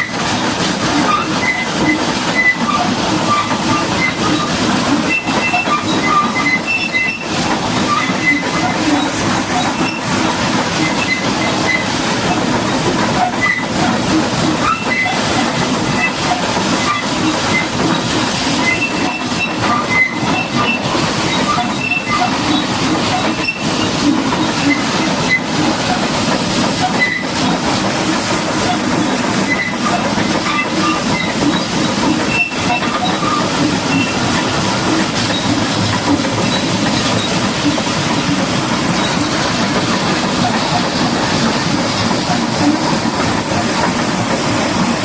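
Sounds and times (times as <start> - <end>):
high-pressure water jet hissing: 0.0 - 45.0.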